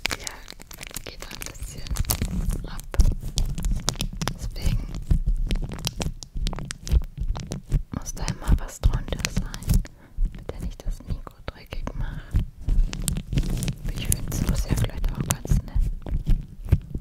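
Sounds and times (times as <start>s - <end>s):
plastic wrapper crumpling: 0.0s - 17.0s
low thumps on microphone: 1.3s - 17.0s.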